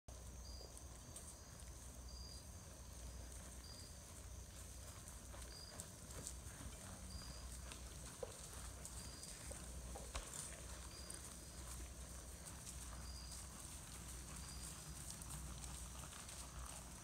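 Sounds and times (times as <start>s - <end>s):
hoofbeats on grass: 0.1s - 17.0s.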